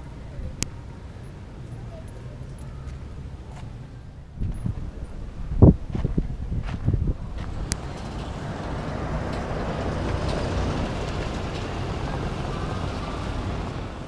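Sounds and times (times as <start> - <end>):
car passing on paved street: 0.0 - 14.0.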